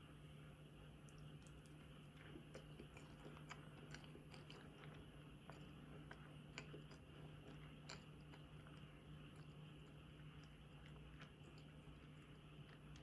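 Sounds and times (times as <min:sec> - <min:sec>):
low steady hum: 0:00.0 - 0:13.0
chewing sweets: 0:00.8 - 0:13.0.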